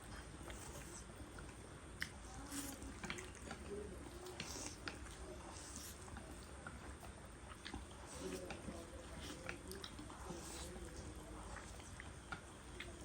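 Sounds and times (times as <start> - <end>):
wet eating slurps and clicks: 0.4 - 13.0.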